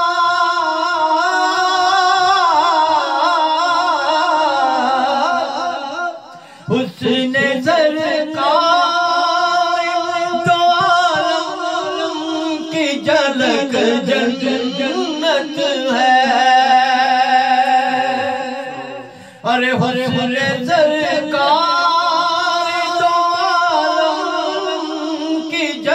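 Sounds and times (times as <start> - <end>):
man singing devotional song: 0.0 - 25.9.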